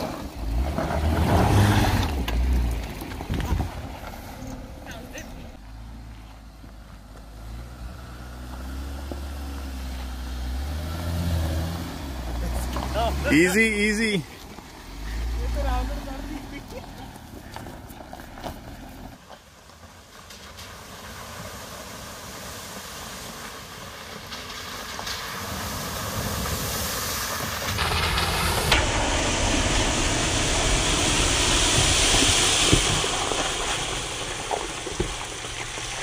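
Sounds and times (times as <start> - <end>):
tyres splashing through mud puddle: 0.0 - 6.0, 7.0 - 36.0.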